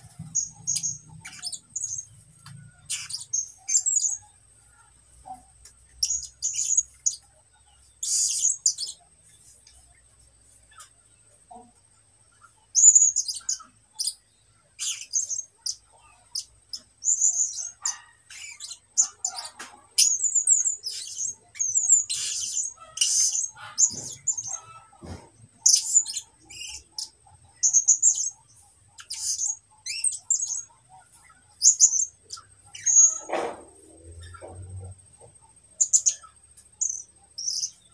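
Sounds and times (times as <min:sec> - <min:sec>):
songbird chirping: 0:00.0 - 0:37.9.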